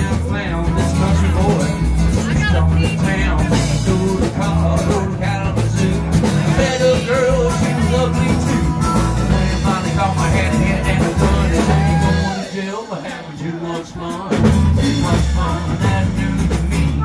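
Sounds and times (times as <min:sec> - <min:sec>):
rock band playing with singing: 0:00.0 - 0:17.0.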